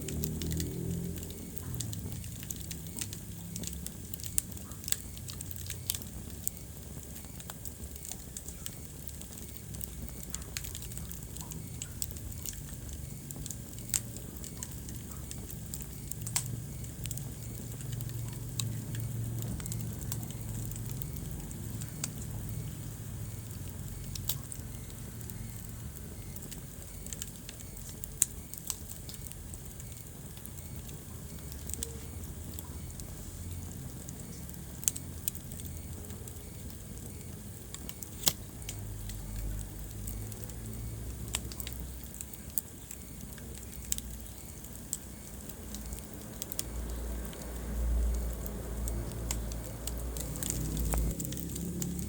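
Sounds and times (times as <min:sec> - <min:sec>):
fire crackling and popping: 0:00.0 - 0:52.0
low rumble of flames: 0:00.0 - 0:52.0.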